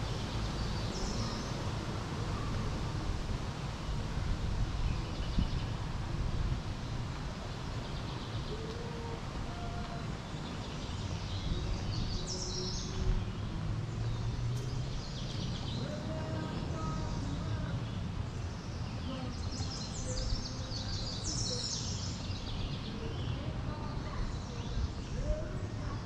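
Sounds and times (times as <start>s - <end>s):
low outdoor rumble: 0.0s - 26.0s
songbirds chirping: 0.0s - 26.0s.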